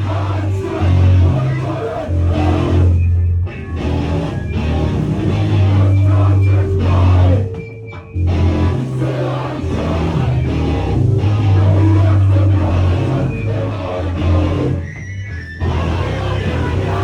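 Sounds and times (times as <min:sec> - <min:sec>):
heavy band playing live: 0:00.0 - 0:02.9, 0:03.7 - 0:14.8.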